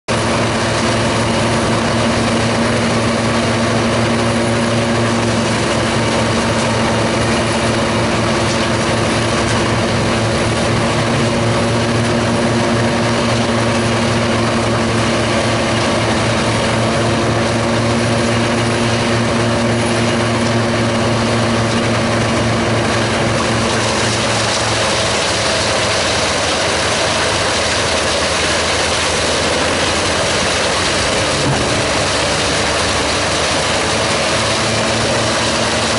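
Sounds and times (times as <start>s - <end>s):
wood chipper diesel drone: 0.1s - 35.9s
wood chipper grinding logs: 0.1s - 35.9s.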